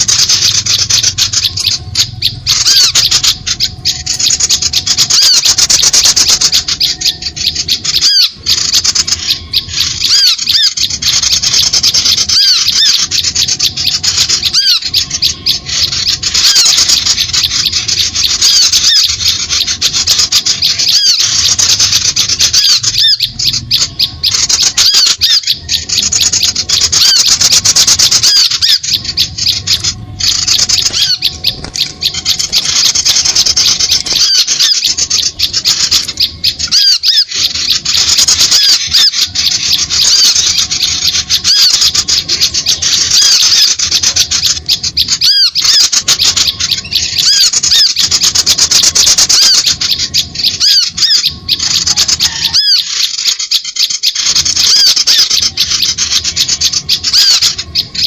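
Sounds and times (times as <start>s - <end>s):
small birds squawking and chirping: 0.0s - 58.0s.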